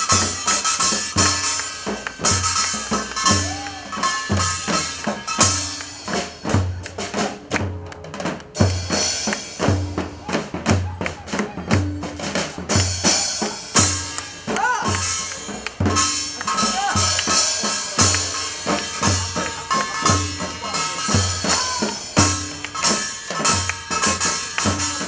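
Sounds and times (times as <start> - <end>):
backing melody: 0.0 - 25.0
barrel drum beating: 0.0 - 25.0
drum kit: 0.0 - 25.0.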